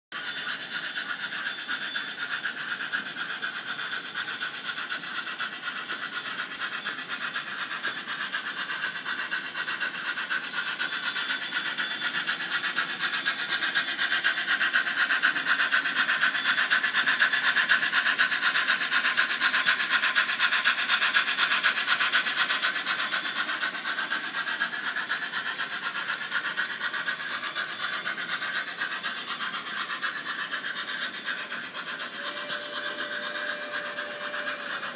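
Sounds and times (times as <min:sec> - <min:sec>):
model train running on track: 0:00.1 - 0:34.9.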